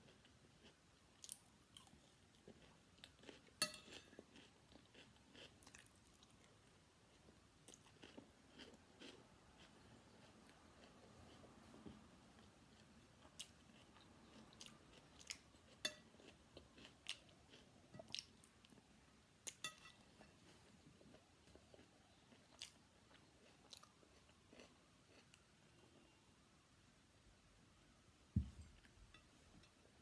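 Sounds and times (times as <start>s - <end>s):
person chewing food: 0.0s - 26.2s.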